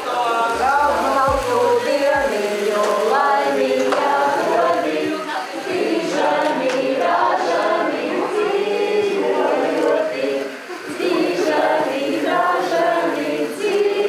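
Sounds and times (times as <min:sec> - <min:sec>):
group singing a celebration song: 0:00.0 - 0:14.0.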